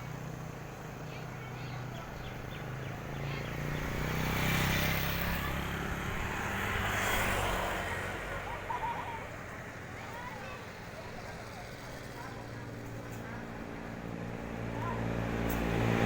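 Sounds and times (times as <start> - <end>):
large vehicle driving past: 2.1 - 16.0.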